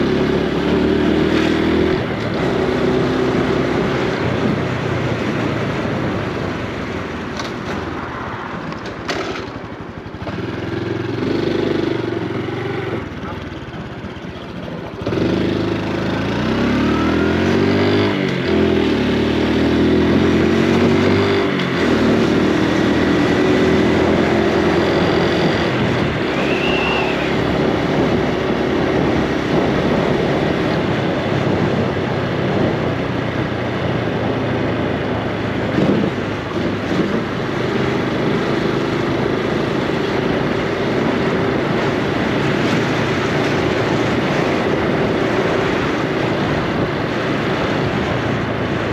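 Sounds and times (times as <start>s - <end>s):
motorcycle engine accelerating: 0.0s - 8.1s, 8.7s - 48.9s.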